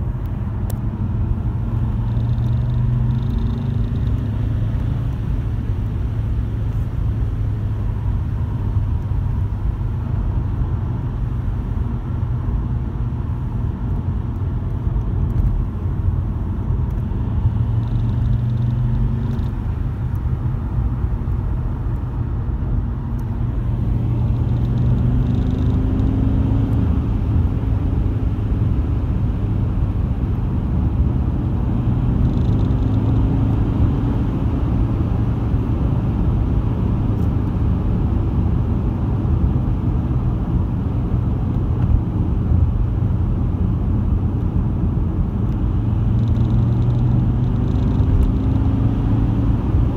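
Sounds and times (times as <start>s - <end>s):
car engine rumbling: 0.0s - 49.9s.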